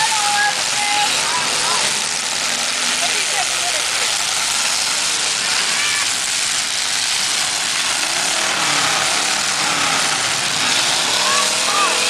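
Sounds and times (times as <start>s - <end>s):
car engines running: 0.0s - 12.0s
engine revs: 0.0s - 12.0s.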